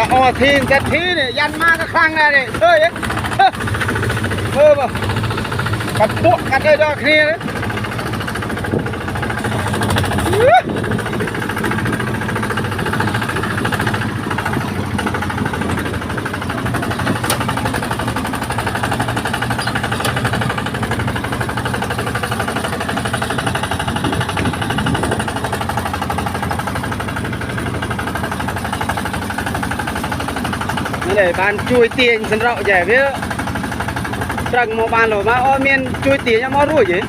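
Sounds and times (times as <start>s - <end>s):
diesel engine chugging: 0.0s - 37.0s.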